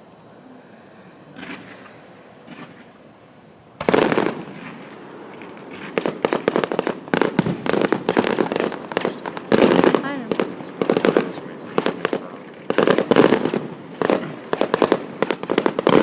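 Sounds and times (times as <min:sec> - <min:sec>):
fireworks crackling pops: 0:01.2 - 0:16.0
firework bang: 0:01.3 - 0:03.0, 0:03.8 - 0:16.0.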